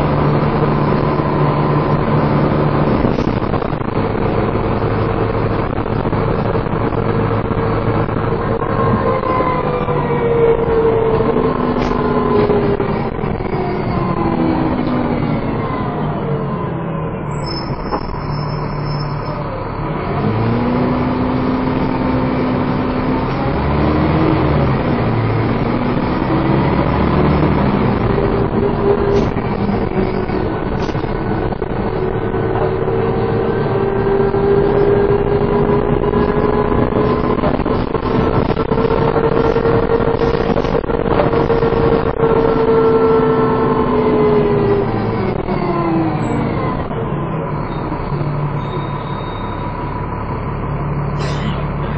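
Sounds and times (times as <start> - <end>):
bus engine: 0.0 - 51.9
drivetrain whine: 0.0 - 51.9.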